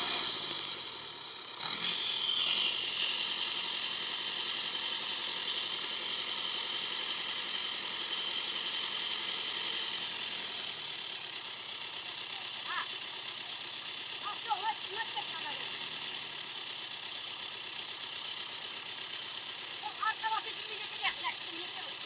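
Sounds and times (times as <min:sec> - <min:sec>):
heavy machinery running: 0:00.0 - 0:22.0.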